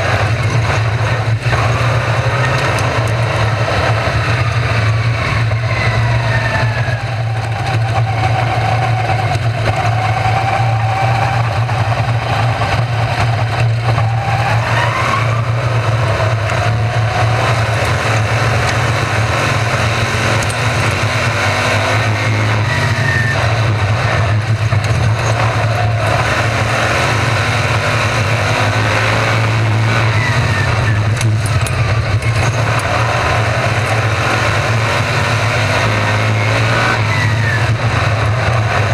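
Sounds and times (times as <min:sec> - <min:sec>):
race car engines passing: 0:00.0 - 0:38.9.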